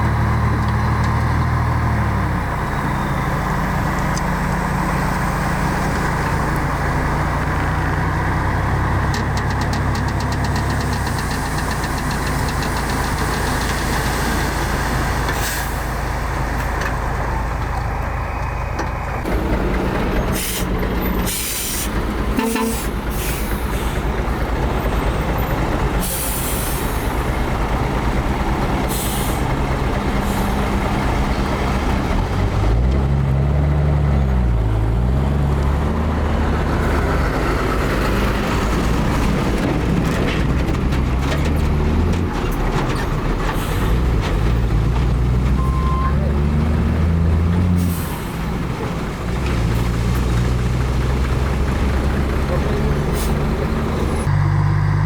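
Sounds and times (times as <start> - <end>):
diesel machinery engine revving: 0.0 - 55.0.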